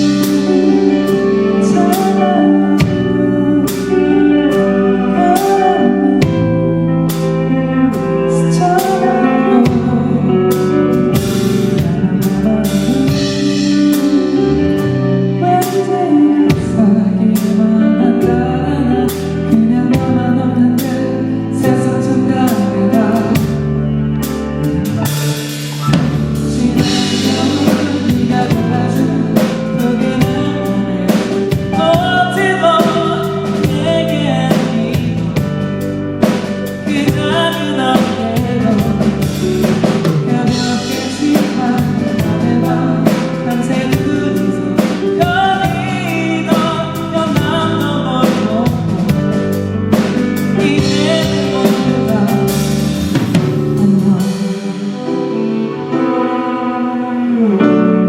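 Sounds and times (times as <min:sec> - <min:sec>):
drum kit beat: 0:00.0 - 0:17.6, 0:22.4 - 0:55.8
lead singer singing: 0:00.0 - 0:58.0
sustained instrumental backing: 0:00.0 - 0:58.0.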